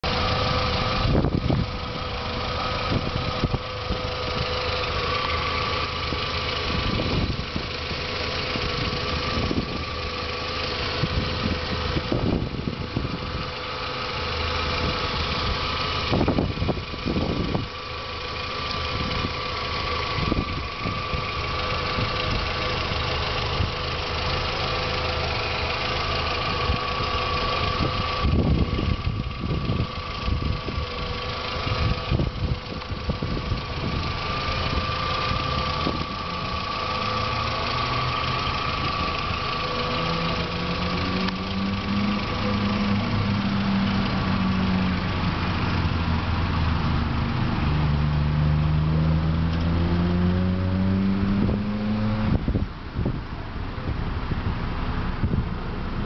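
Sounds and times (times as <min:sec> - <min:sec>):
steady whine: 0:00.0 - 0:49.9
car engine idling: 0:00.0 - 0:56.0.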